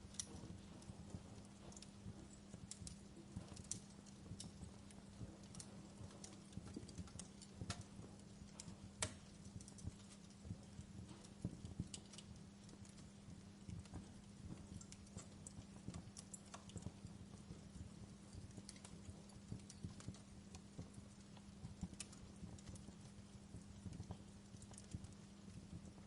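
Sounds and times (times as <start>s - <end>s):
log fire crackling: 0.0s - 26.0s
low steady hum: 0.0s - 26.0s.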